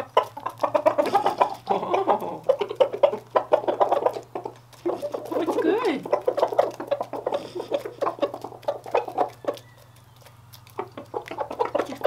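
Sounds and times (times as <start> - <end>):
roosters clucking: 0.0 - 12.0.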